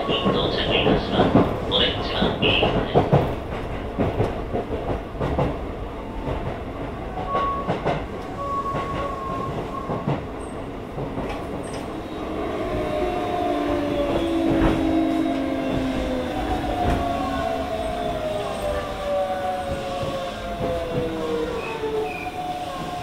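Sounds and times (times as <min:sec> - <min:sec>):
train running noise: 0:00.0 - 0:23.0.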